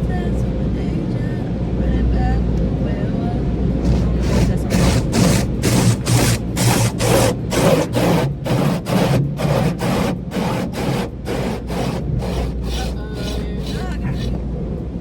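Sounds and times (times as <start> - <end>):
low rumble of machinery: 0.0 - 15.0
rhythmic swishing of car wash: 0.0 - 15.0.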